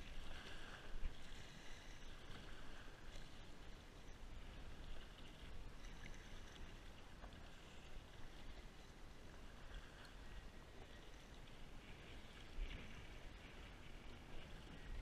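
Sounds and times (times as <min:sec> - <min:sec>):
paddle dipping in water: 0:00.0 - 0:15.0
water lapping against hull: 0:00.0 - 0:15.0
wind rumble on microphone: 0:00.0 - 0:15.0.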